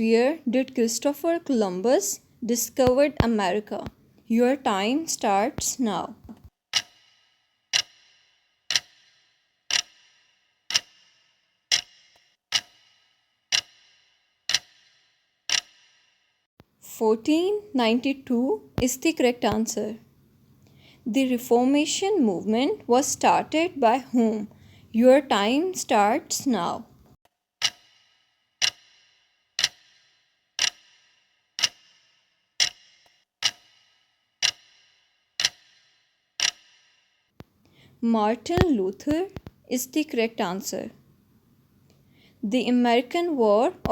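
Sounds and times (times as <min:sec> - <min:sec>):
clock ticking: 0:00.0 - 0:16.0, 0:16.6 - 0:20.2, 0:21.2 - 0:41.0, 0:41.9 - 0:43.9.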